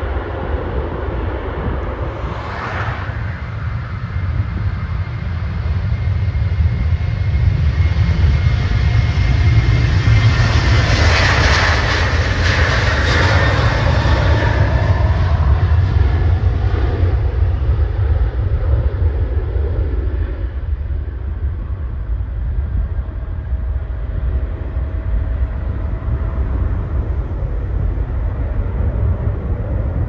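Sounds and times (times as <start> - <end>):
jet engines at takeoff: 0.0 - 30.0.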